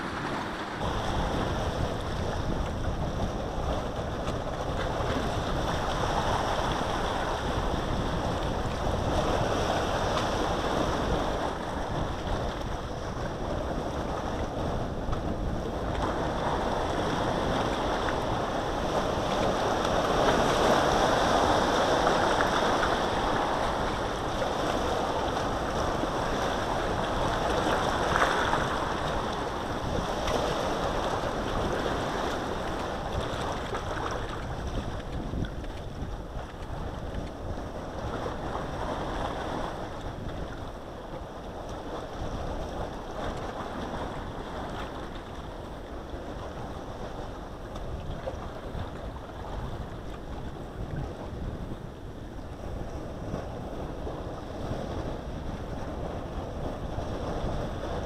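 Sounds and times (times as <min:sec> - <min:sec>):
sea waves rushing: 0:00.0 - 0:58.0
wind buffeting microphone: 0:00.0 - 0:58.0.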